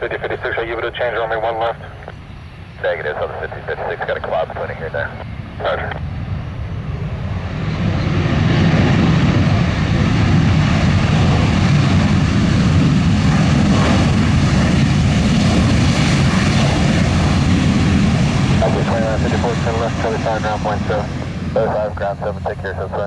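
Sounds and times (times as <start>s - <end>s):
jet engines roaring at takeoff: 0.0s - 23.0s.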